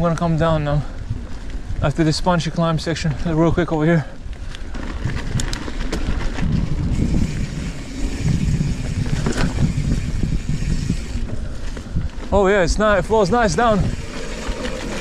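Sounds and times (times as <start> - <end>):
bike clicks and rattles: 0.0 - 15.0
bike tyres rolling over trail: 0.0 - 15.0
wind buffeting microphone: 0.0 - 15.0.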